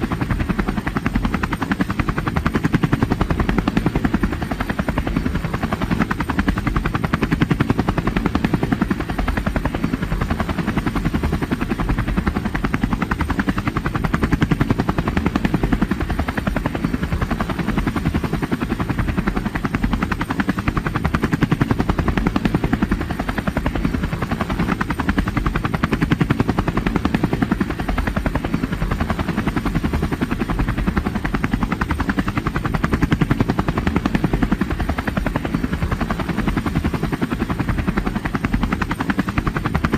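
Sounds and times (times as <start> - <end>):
helicopter rotor blades chopping: 0.0 - 39.9.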